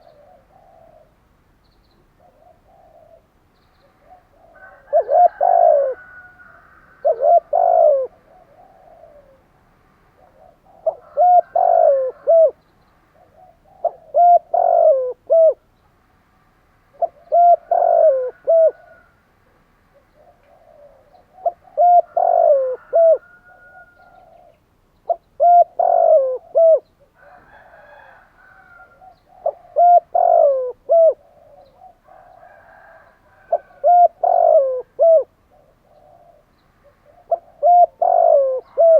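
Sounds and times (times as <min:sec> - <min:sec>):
dove cooing: 0:00.0 - 0:01.3, 0:02.1 - 0:15.7, 0:16.9 - 0:38.9.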